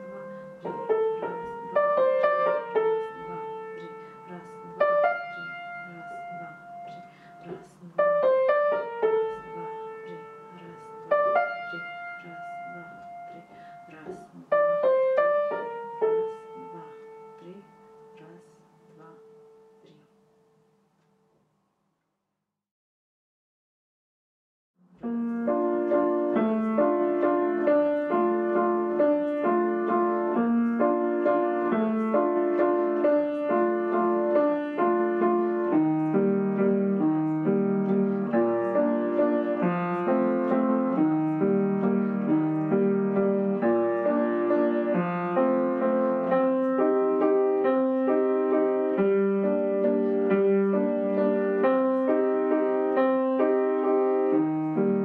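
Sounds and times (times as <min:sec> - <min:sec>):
gentle piano waltz: 0:00.0 - 0:20.0, 0:25.0 - 0:55.0.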